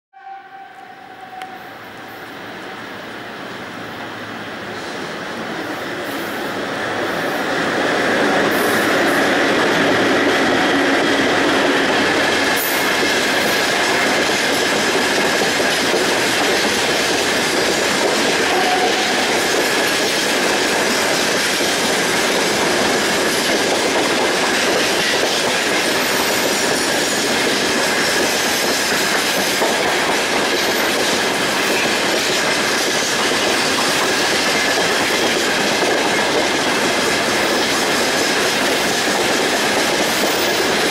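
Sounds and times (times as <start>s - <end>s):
freight train wheels clacking: 4.7s - 40.9s.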